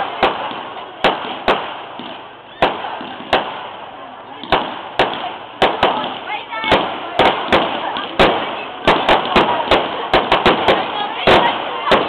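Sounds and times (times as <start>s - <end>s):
faint steady noise: 0.0s - 12.0s
fireworks bangs: 0.0s - 12.0s.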